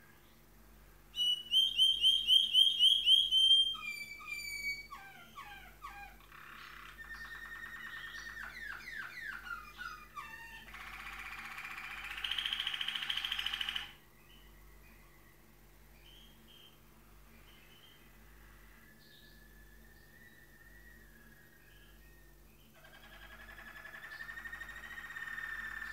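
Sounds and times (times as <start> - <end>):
canary singing trills: 1.1 - 25.9.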